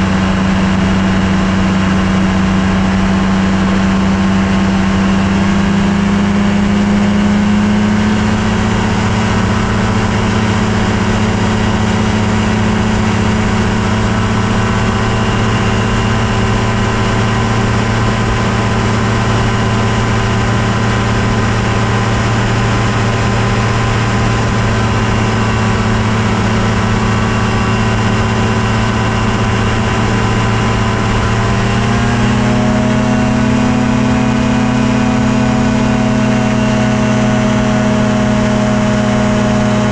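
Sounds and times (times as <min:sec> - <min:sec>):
ultralight airplane engine and propeller: 0:00.0 - 0:39.9.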